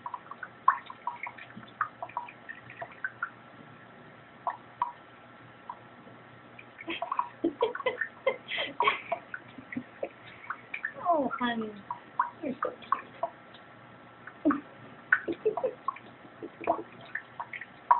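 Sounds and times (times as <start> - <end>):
water drips: 0.0 - 3.8, 4.4 - 5.9, 6.5 - 17.9.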